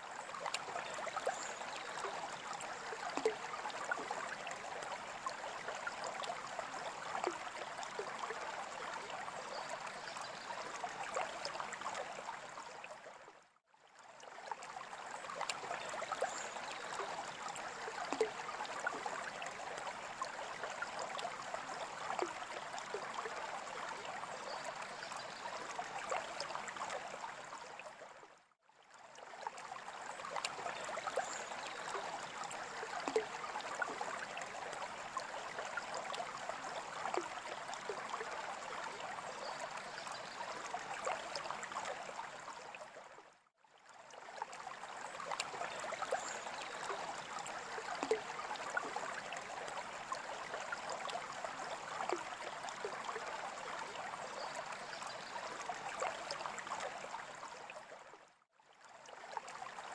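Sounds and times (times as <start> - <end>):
water trickling and bubbling: 0.0 - 59.9.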